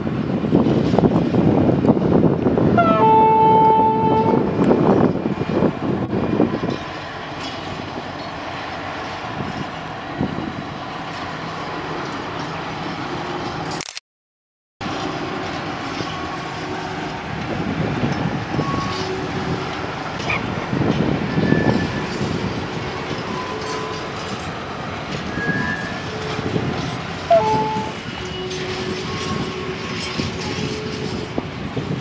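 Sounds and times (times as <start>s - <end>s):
locomotive engine rumbling: 0.0s - 13.7s, 14.8s - 32.0s.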